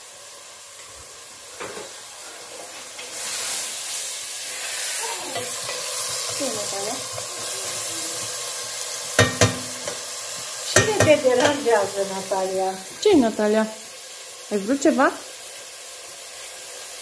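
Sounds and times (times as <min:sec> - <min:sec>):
onion and meat sizzling in a pan: 0:00.0 - 0:17.0.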